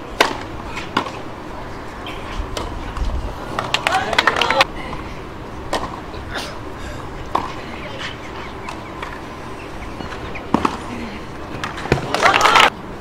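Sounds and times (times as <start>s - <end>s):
tennis arena background noise: 0.0s - 13.0s.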